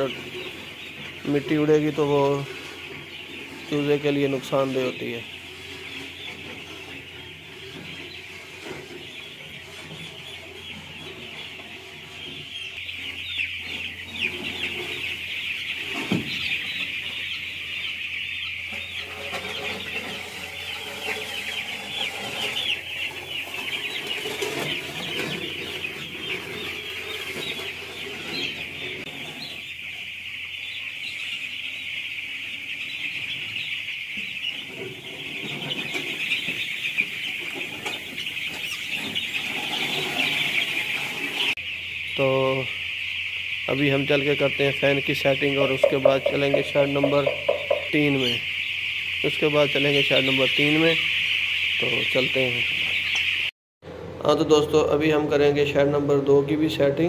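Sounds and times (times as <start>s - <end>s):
chicks peeping: 0.0s - 53.5s, 54.2s - 57.0s.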